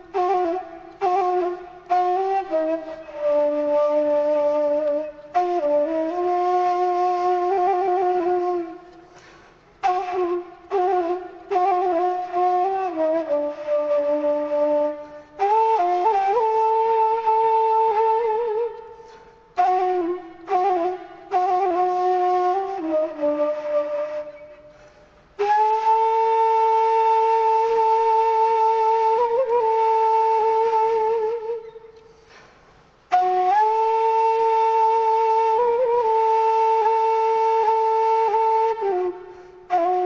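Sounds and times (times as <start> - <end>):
solo flute melody: 0.0 - 32.4, 33.0 - 40.0.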